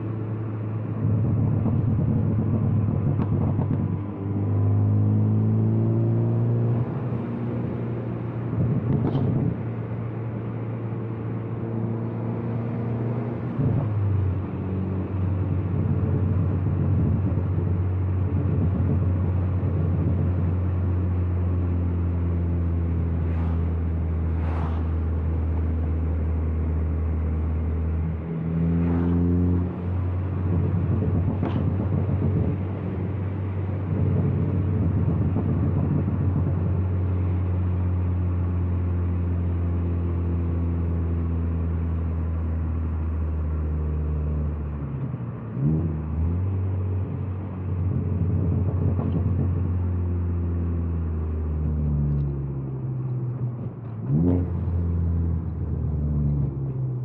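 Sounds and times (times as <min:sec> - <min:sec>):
turbocharged car engine accelerating: 0:00.0 - 0:57.0.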